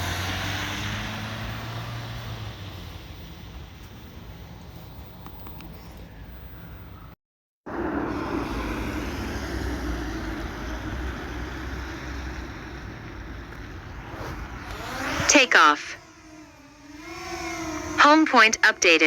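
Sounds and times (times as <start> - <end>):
drone propellers whirring: 0.0 - 7.0, 7.7 - 19.0.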